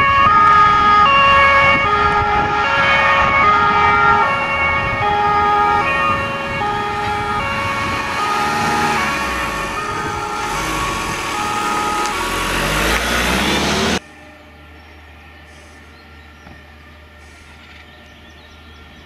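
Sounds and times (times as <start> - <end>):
road and engine noise: 0.0 - 19.0
two-tone fire siren: 0.0 - 19.0.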